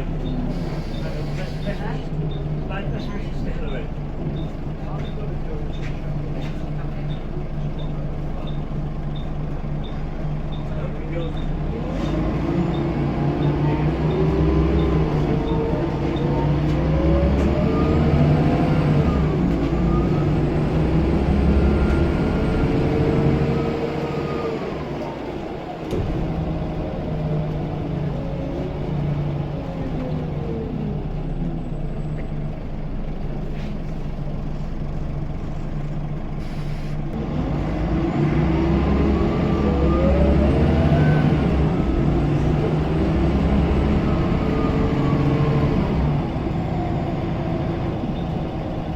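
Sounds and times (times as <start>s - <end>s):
bus diesel engine accelerating: 0.0s - 48.9s.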